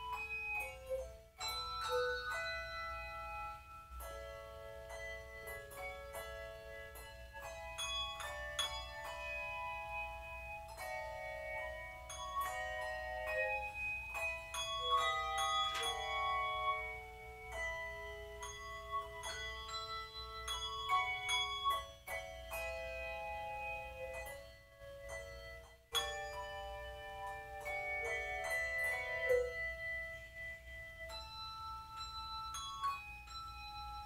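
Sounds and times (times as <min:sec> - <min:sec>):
handbell choir playing: 0:00.0 - 0:34.0.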